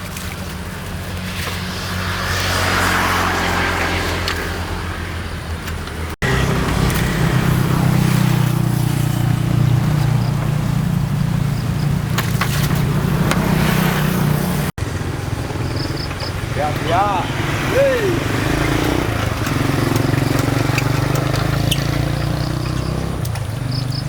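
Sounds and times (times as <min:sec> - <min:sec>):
diesel engine running: 0:04.0 - 0:24.0.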